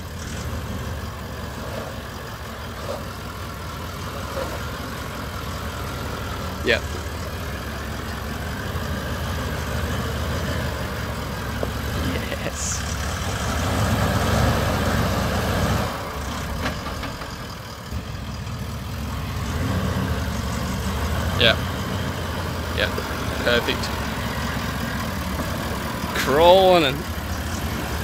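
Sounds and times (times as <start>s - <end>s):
diesel engine running at low revs: 0.0s - 28.0s.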